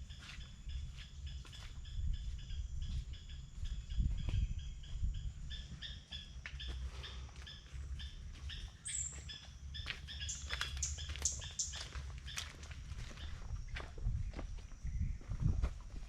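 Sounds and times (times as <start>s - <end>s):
birds chirping: 0.0s - 13.5s.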